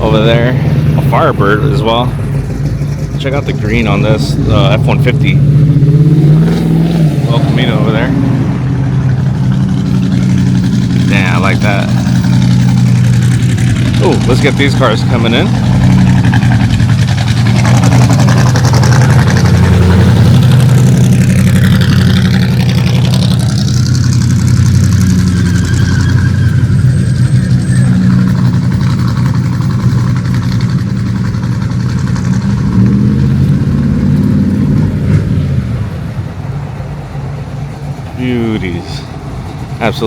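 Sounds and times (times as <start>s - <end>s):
car engines rumbling: 0.0s - 40.0s.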